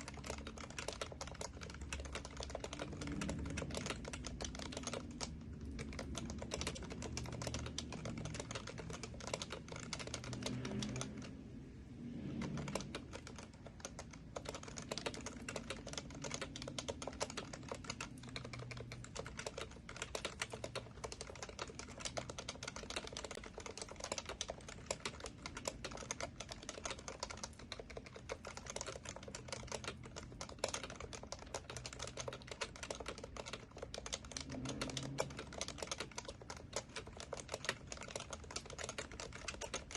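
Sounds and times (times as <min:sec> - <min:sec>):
fast typing on a keyboard: 0:00.0 - 0:39.9.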